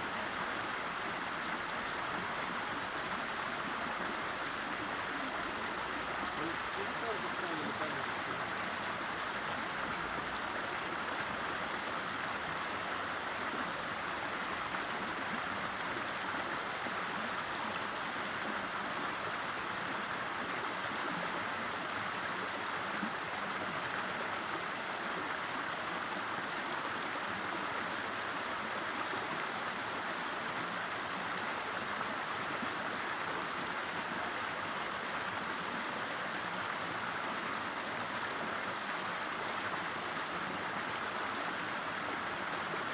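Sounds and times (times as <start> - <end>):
river water flowing: 0.0 - 42.9.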